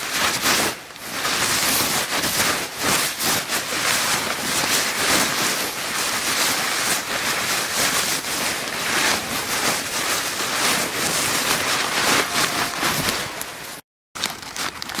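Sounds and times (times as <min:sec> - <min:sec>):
paper bag crinkling: 0:00.0 - 0:15.0.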